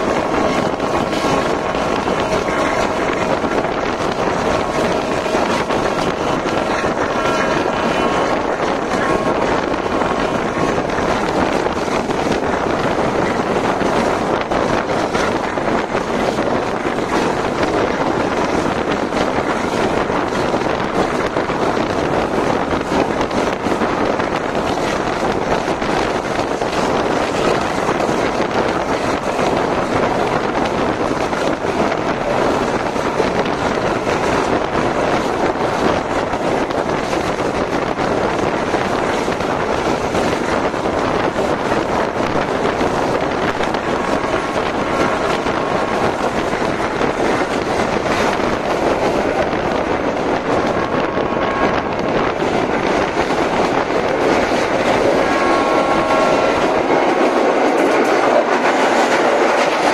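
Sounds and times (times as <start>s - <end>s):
rushing wind: 0.0s - 59.9s
train wheels rolling on rails: 0.0s - 59.9s
wind buffeting microphone: 0.0s - 59.9s.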